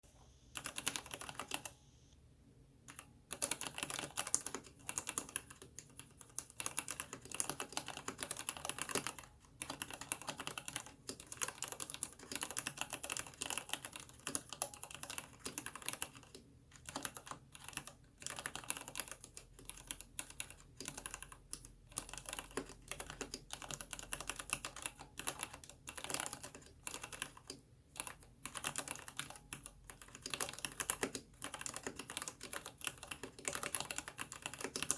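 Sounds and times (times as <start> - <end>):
typing on mechanical keyboard: 0.6 - 1.8, 2.9 - 34.9.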